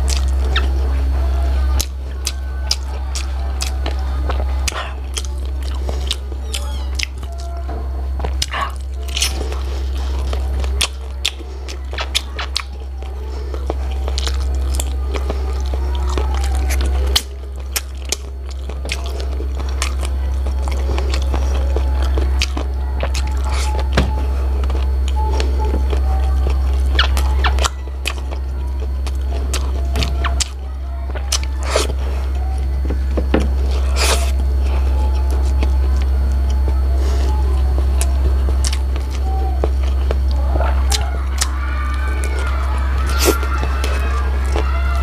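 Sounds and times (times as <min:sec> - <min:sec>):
close chewing and gnawing: 0:00.0 - 0:45.0.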